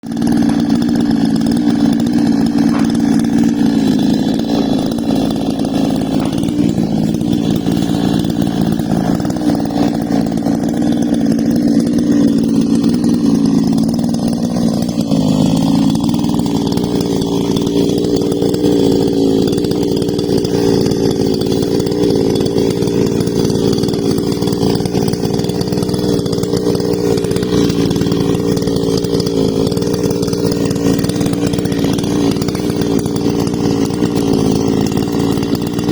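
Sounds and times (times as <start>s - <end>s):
chainsaw cutting tree: 0.0s - 35.9s.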